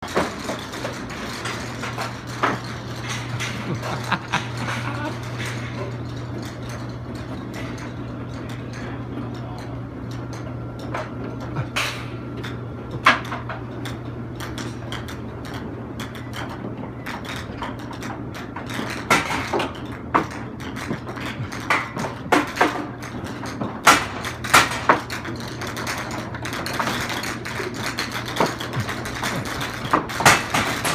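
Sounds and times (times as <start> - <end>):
golf balls clattering down: 0.0 - 30.9
low machine hum: 0.0 - 30.9.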